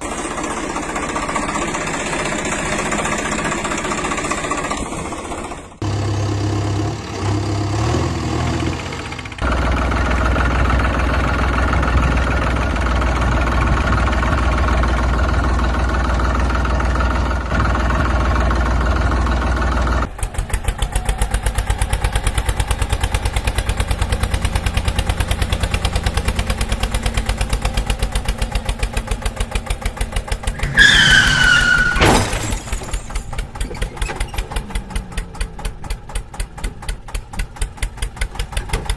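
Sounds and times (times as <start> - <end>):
engine chugging idle: 0.0 - 7.9, 8.8 - 38.9
heavy engine running: 0.0 - 38.9.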